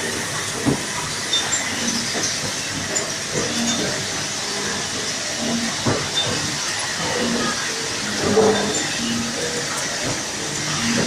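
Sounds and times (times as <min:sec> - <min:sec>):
machine tools hissing: 0:00.0 - 0:11.0.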